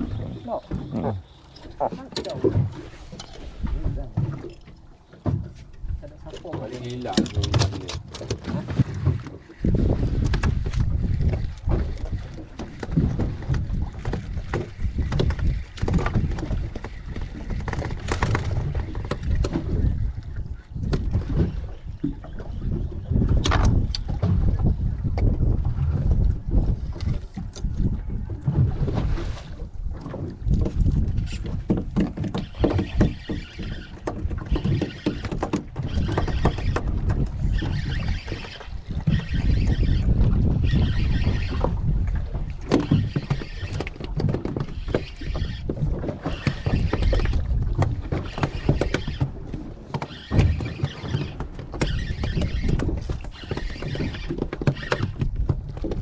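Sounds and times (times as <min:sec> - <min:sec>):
water slapping boat hull: 0:00.0 - 0:56.0
wind buffeting microphone: 0:05.3 - 0:56.0.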